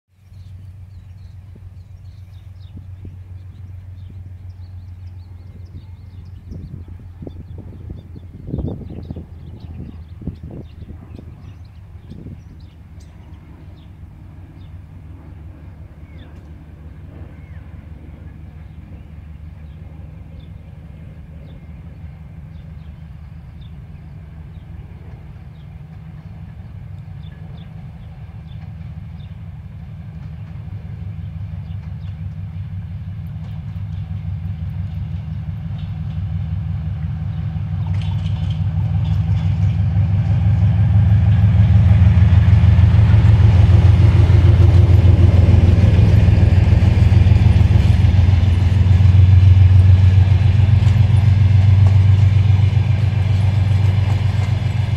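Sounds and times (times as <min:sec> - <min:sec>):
diesel locomotive engine drone: 0:00.1 - 0:54.9
train coaches rolling past: 0:00.2 - 0:54.9.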